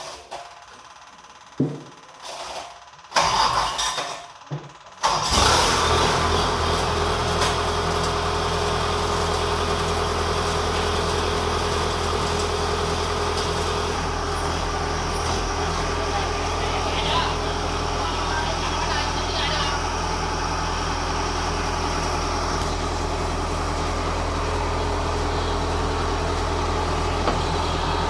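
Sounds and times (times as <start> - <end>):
diesel engine starting and idling: 3.0 - 3.9, 4.8 - 28.0.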